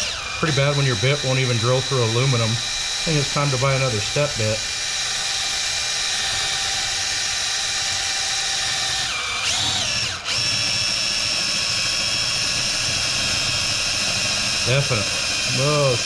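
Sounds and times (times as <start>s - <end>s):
cordless drill motor whine: 0.0s - 16.0s.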